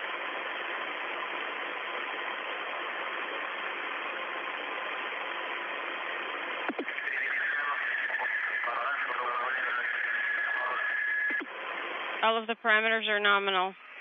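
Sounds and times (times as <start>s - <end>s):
radio channel hiss: 0.0s - 14.0s.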